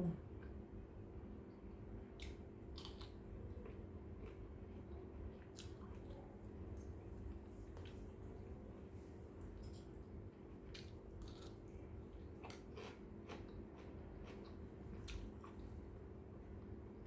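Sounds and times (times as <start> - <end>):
steady low hum: 0.0 - 17.0
person chewing softly: 0.3 - 16.7.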